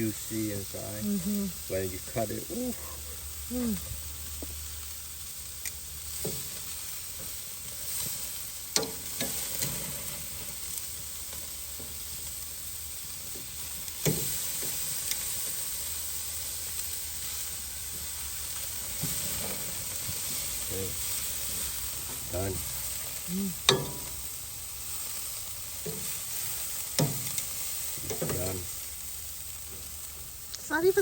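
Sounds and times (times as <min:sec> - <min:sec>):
steaks sizzling on a grill: 0:00.0 - 0:31.0.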